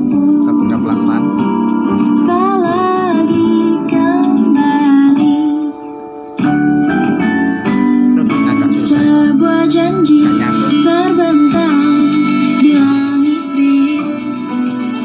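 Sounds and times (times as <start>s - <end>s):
song with singing and guitar: 0.0s - 15.0s.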